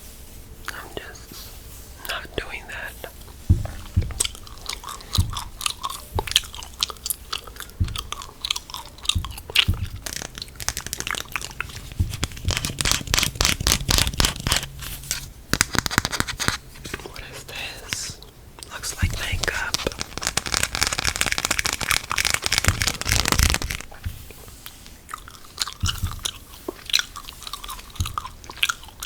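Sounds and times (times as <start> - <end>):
gum chewing mouth clicks: 3.2 - 14.8, 15.6 - 29.0.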